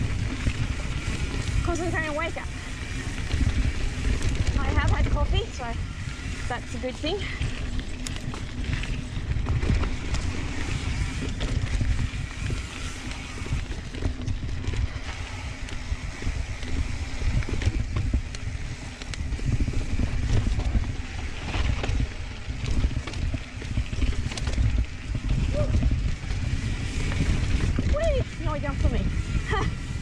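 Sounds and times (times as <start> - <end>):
bike clicking and rattling: 0.0 - 30.0
tyres on dirt: 0.0 - 30.0
wind on microphone: 0.0 - 30.0.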